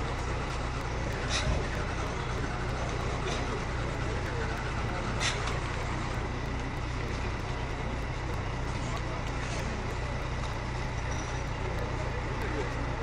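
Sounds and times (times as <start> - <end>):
engines running low drone: 0.0 - 13.0
voices in background: 0.0 - 13.0.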